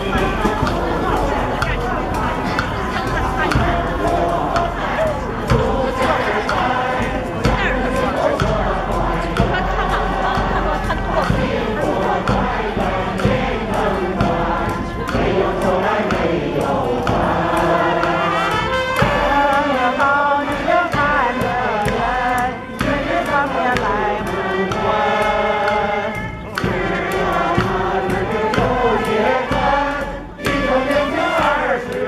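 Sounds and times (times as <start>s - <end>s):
crowd singing in chorus: 0.0s - 32.0s.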